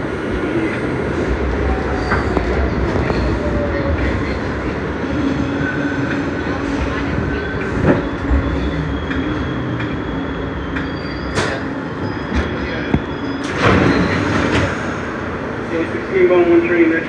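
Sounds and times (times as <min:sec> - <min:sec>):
subway car rumble: 0:00.0 - 0:17.0.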